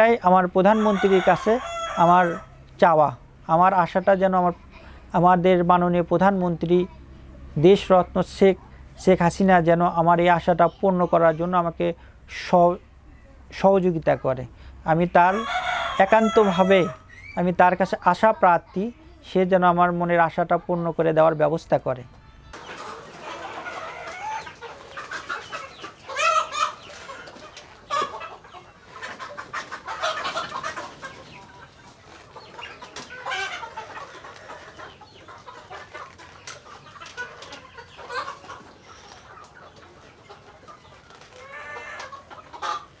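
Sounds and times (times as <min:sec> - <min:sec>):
chickens clucking and calling: 0:00.0 - 0:43.0.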